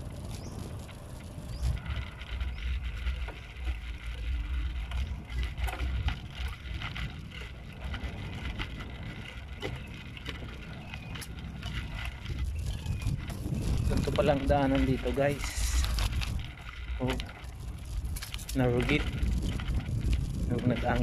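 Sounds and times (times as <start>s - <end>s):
bicycle rattling and clicking: 0.0s - 21.0s
wind rumble on microphone: 0.0s - 21.0s.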